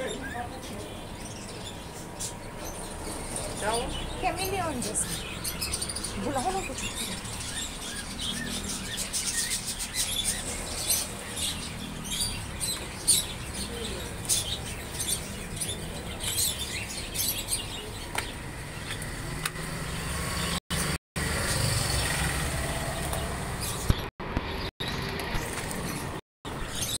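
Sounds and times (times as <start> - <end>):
caged birds chirping: 0.0 - 27.0
street traffic hum: 0.0 - 27.0.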